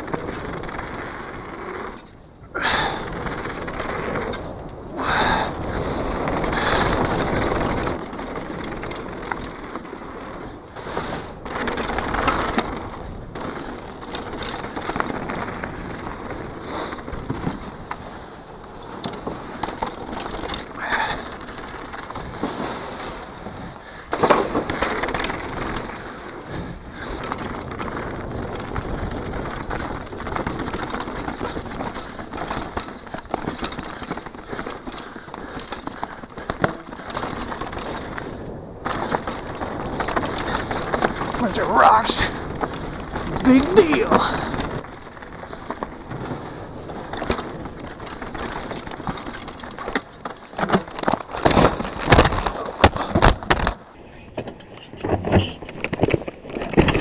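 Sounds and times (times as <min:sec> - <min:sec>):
bike rattling over bumps: 0:00.0 - 0:57.0
bike tyres rolling over dirt: 0:00.0 - 0:57.0.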